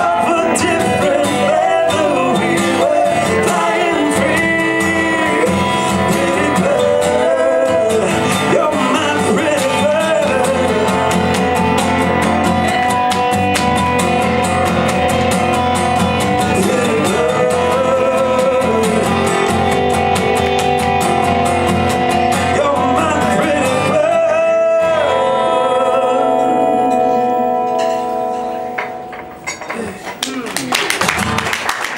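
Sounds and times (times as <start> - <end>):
person singing: 0.0 - 14.9, 15.5 - 20.1, 22.2 - 30.4
guitar strumming: 0.0 - 30.2.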